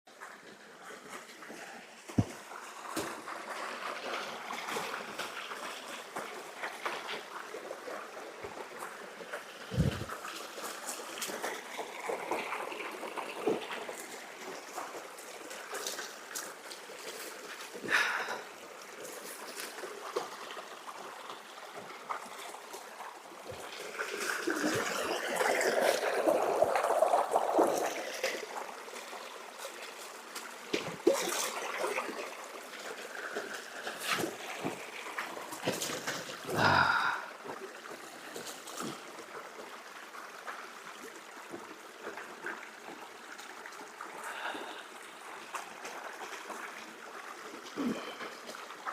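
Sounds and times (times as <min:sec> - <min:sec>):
water trickling and gurgling: 0:00.1 - 0:48.9.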